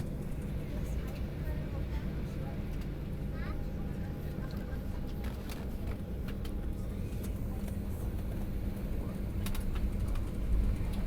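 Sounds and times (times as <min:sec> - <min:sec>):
aircraft engines idling: 0:00.0 - 0:11.0.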